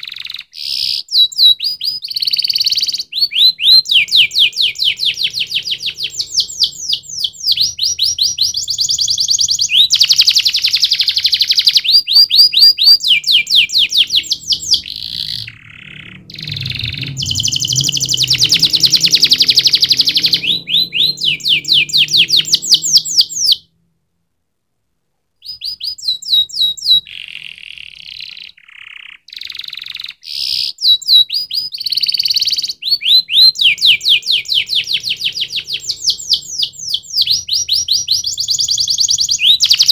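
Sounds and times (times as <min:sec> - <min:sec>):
canary singing trills: 0:00.0 - 0:23.7, 0:25.4 - 0:39.9.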